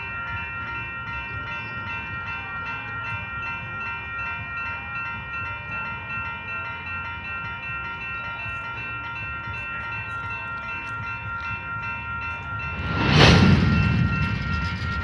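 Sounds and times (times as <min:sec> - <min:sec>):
low rumble of freight cars: 0:00.0 - 0:15.0
railroad crossing bell ringing: 0:00.0 - 0:15.0.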